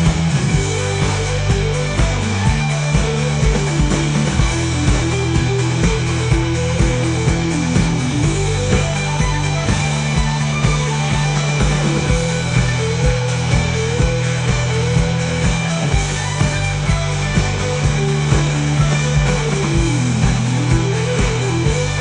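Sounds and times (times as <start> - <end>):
instrumental rock music: 0.0 - 22.0.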